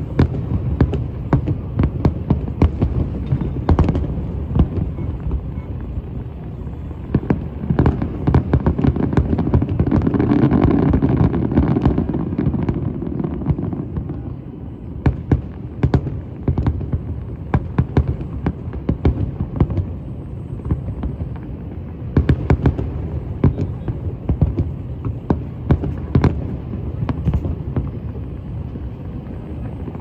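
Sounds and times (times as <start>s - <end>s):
continuous low rumble: 0.0s - 30.0s
fireworks popping and banging: 0.0s - 30.0s.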